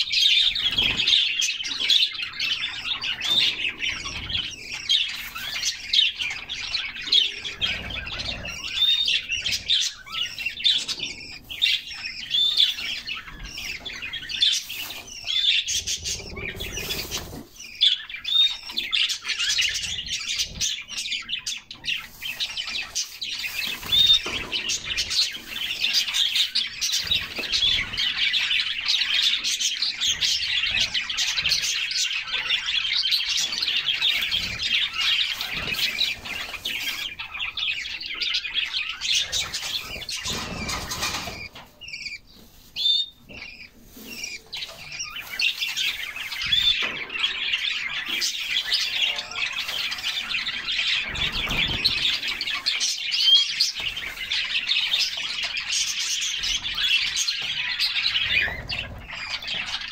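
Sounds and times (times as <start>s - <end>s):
canaries singing: 0.0s - 59.9s.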